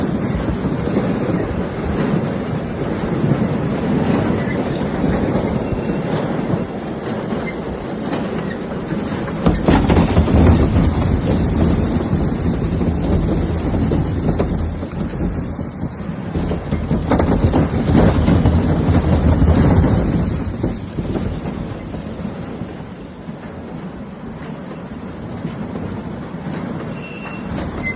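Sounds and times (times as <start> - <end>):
rattling mechanical clatter: 0.0 - 23.7.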